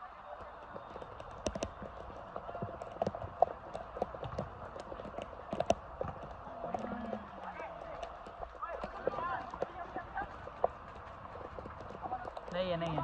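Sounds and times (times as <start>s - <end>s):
feet on wet pitch: 0.0s - 13.0s.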